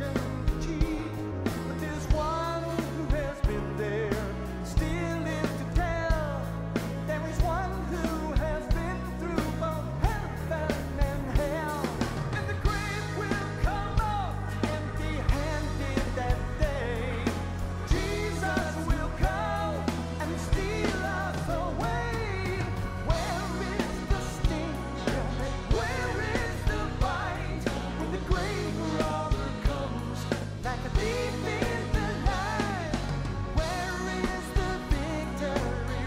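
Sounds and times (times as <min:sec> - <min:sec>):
drum kit beat: 0:00.0 - 0:36.0
electric bass: 0:00.0 - 0:36.0
man singing lead vocals: 0:00.0 - 0:36.0.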